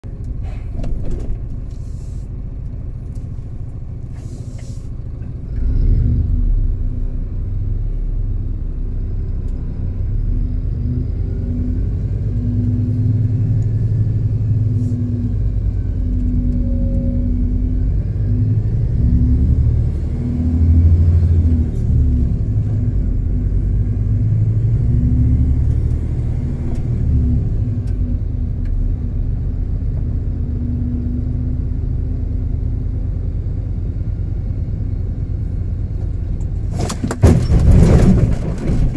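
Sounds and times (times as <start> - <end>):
vehicle engine low rumble: 0.0 - 38.9.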